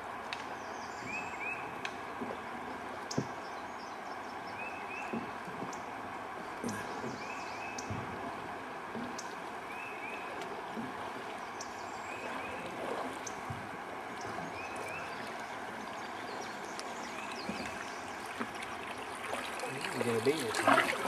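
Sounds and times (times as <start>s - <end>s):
river water rushing: 3.9s - 21.0s.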